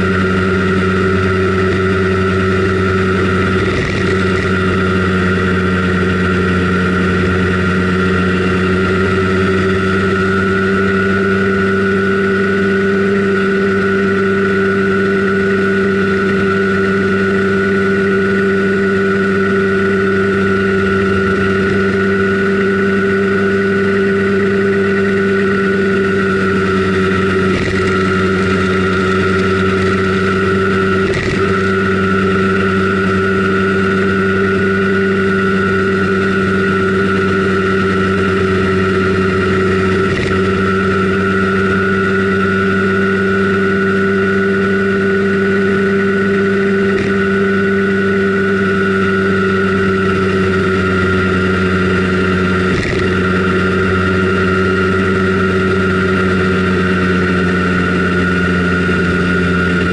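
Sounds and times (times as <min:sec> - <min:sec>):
scooter two-stroke engine running: 0:00.0 - 0:59.9.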